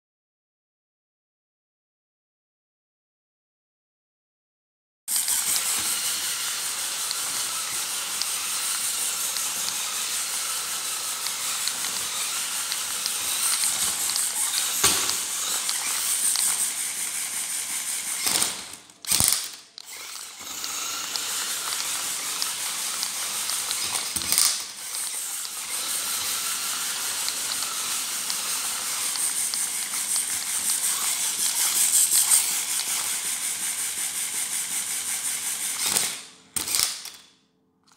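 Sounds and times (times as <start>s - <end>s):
pneumatic flipper burst: 5.1s - 37.2s
whirring mechanism with ratcheting ticks: 5.1s - 37.9s.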